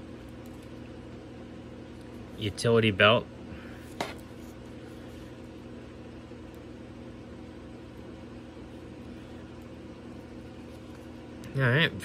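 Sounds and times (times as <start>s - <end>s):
appliance humming with hiss: 0.0s - 12.0s.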